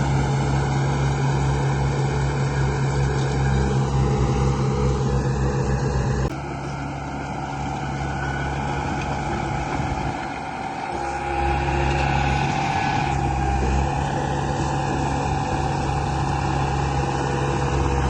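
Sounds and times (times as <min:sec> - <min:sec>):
model machine mechanical drone: 0:00.0 - 0:18.0.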